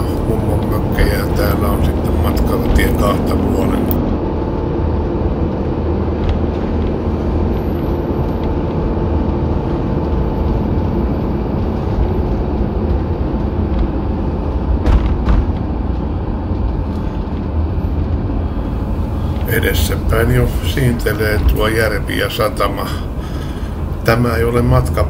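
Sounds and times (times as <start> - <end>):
motorhome engine and tyres rumbling: 0.0 - 25.0.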